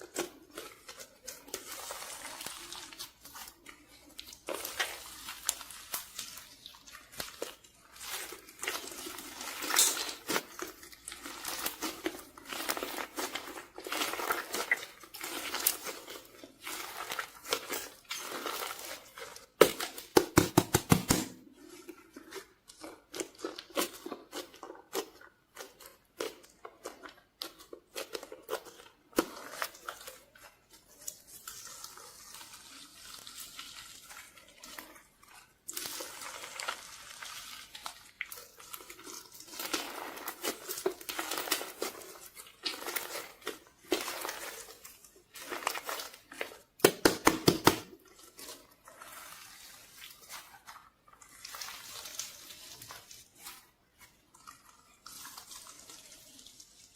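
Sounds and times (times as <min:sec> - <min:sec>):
slime squelching: 0:00.0 - 0:56.9.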